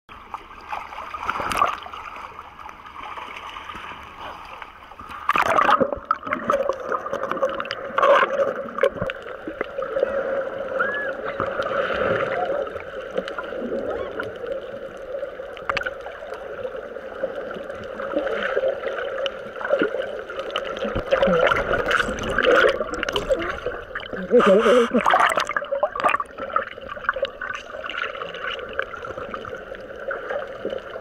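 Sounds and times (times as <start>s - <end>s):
water sloshing and bubbling: 0.1s - 31.0s.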